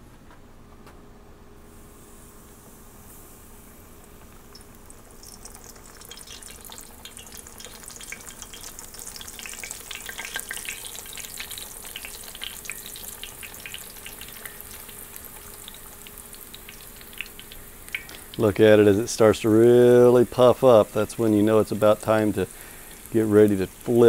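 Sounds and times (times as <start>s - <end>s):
dough sizzling in hot oil: 2.0s - 24.0s.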